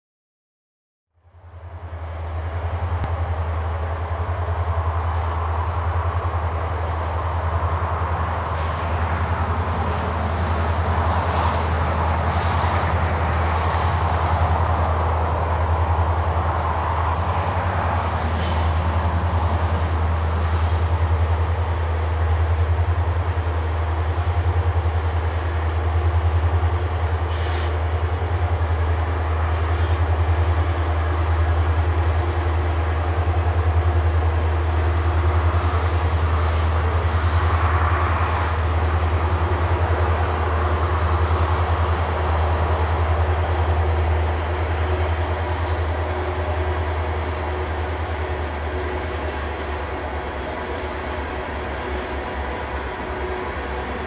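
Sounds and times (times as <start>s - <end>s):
freight train rumbling past: 1.1s - 54.0s.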